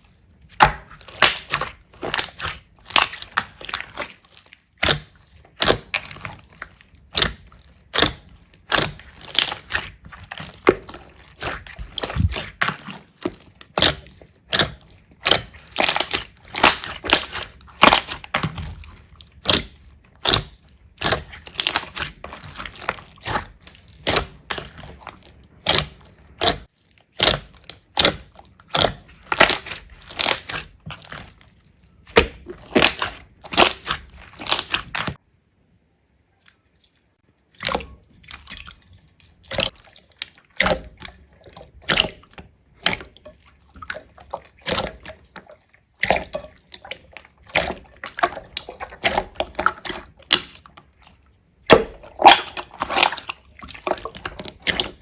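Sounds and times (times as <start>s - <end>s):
slime squishing with wet pops: 0.0s - 35.2s, 36.3s - 55.0s.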